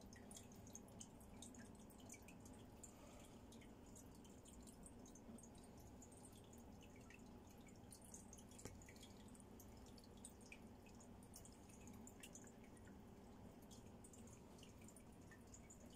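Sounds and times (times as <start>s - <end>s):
aquarium water dripping: 0.0s - 15.9s
low steady hum: 0.0s - 15.9s.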